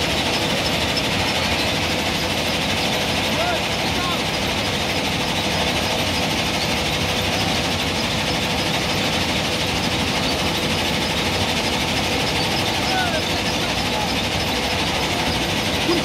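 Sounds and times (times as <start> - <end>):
backhoe digging sand: 0.0 - 16.0
diesel engine under load: 0.0 - 16.0.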